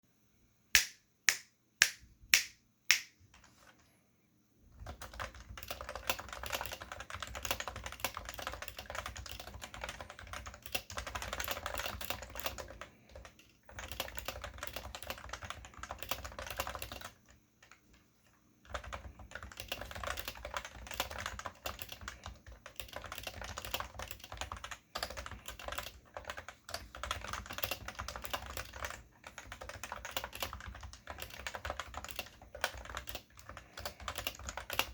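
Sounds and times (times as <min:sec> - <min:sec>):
fast typing on keyboard: 0:04.7 - 0:34.9.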